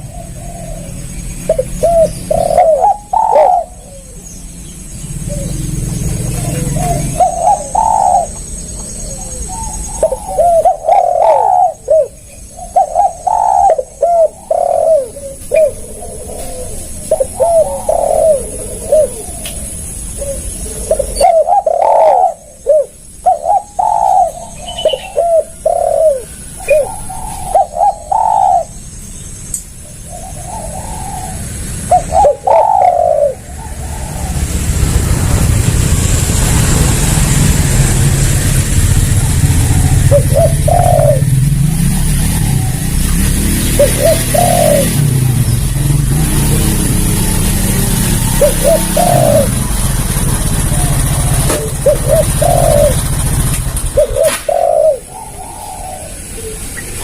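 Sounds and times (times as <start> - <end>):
dove cooing: 0.0 - 28.8, 29.8 - 38.1, 38.8 - 57.0.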